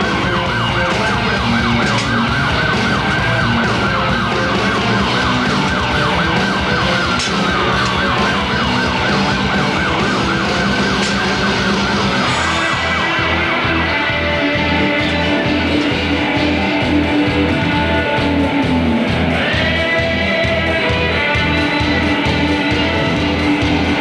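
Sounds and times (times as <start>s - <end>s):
pulsing low beat: 0.0s - 24.0s
siren yelping: 0.0s - 24.0s.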